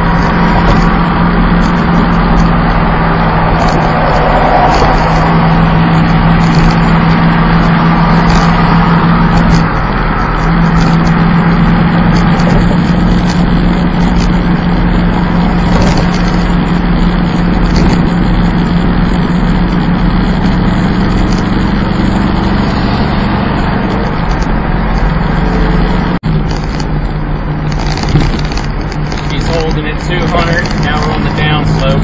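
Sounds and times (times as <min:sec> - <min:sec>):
car engine drone: 0:00.0 - 0:32.0
road noise: 0:00.0 - 0:32.0.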